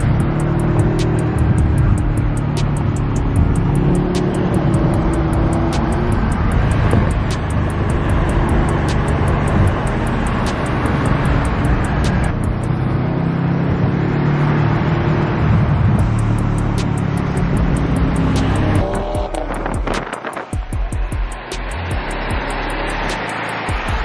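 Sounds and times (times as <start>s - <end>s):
car engine running: 0.0s - 24.0s
road and tyre noise: 0.0s - 24.0s.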